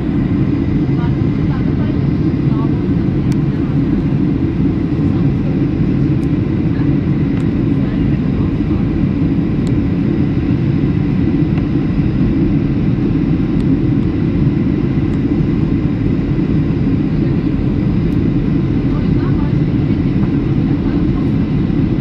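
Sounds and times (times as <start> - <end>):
aircraft cabin rumble: 0.0 - 22.0.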